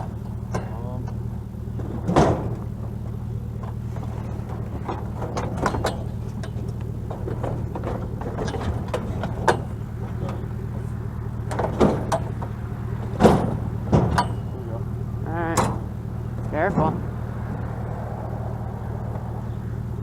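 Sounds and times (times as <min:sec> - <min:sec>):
scrap items clunking: 0:00.0 - 0:17.8
vehicle engine idling: 0:00.0 - 0:20.0.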